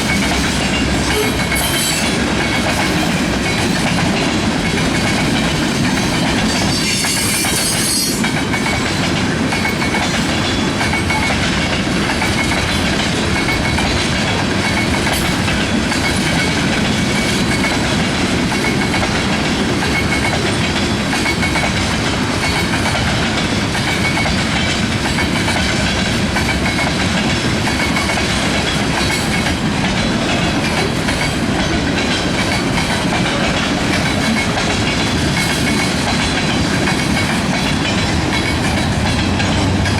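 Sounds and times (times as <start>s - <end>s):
freight train rumbling past: 0.0s - 39.9s
wheels clacking over rails: 0.0s - 39.9s.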